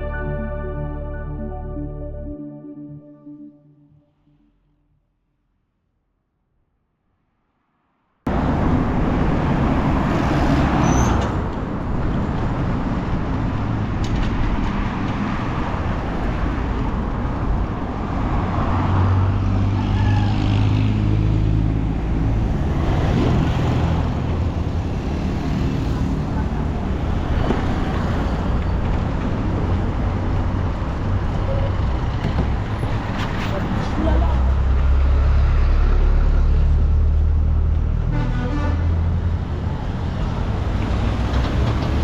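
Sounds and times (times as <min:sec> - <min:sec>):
road traffic: 0:00.0 - 0:04.7, 0:08.3 - 0:42.0.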